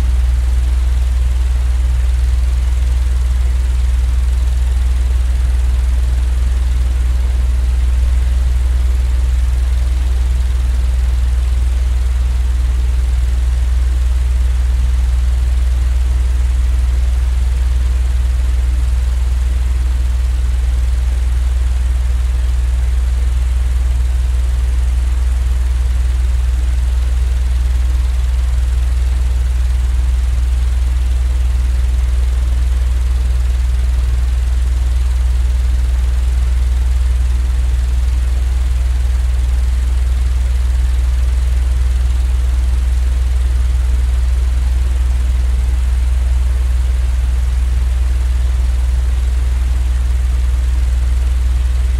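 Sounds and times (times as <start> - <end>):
low machine rumble: 0.0 - 48.6.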